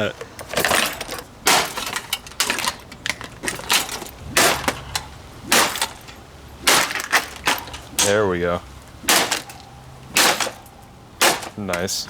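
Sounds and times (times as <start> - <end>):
hard cracking blows: 0.0 - 12.0
plastic breaking: 0.4 - 12.0.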